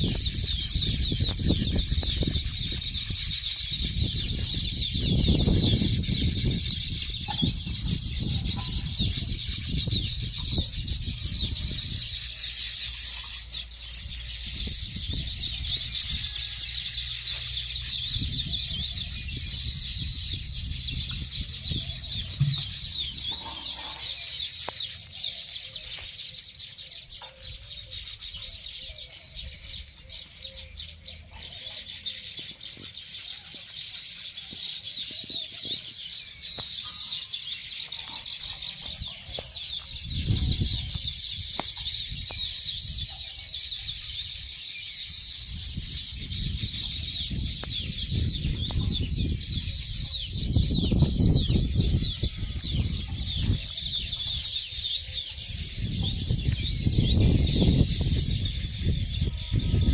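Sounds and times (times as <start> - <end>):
birds chirping and chattering: 0.0 - 59.9.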